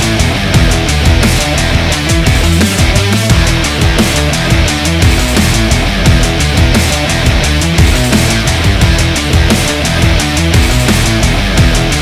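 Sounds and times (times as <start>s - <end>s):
hard rock music: 0.0s - 12.0s.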